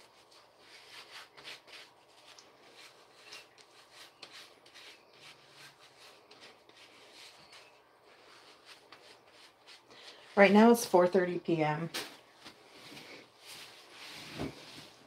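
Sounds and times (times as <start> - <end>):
faint rhythmic brushing strokes: 0.0 - 15.0.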